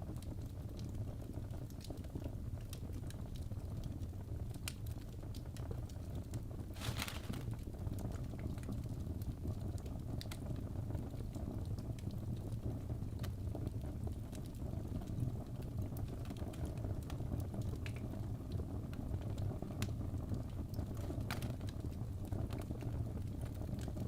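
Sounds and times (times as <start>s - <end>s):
low rumble of fire: 0.0s - 24.0s
wood fire crackling and popping: 0.0s - 24.0s.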